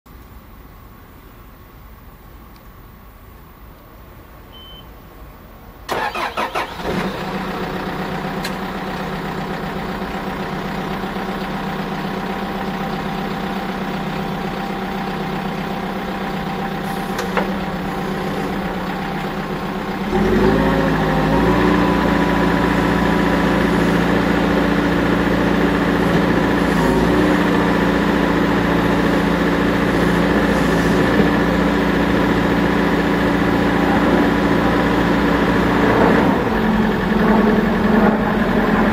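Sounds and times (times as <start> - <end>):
diesel engine starting and idling: 4.5 - 38.9.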